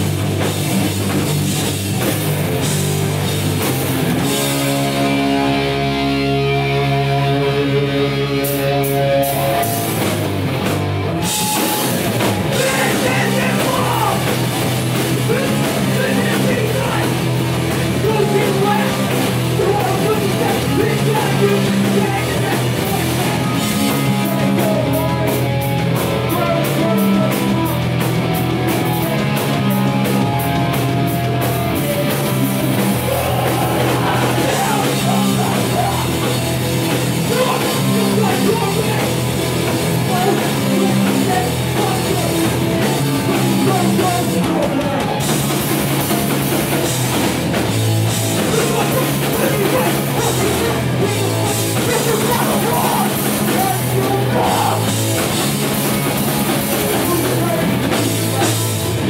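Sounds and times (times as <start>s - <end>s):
punk band playing live: 0.0s - 59.0s.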